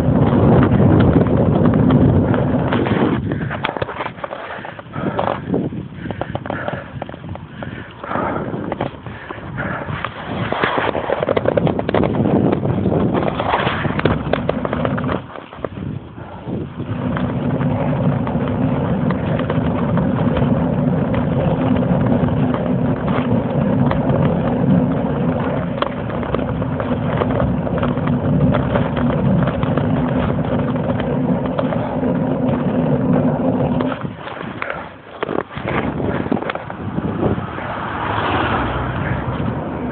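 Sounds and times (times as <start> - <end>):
motorbike engine drone: 0.0 - 39.9
road knocks and rattles: 0.0 - 39.9.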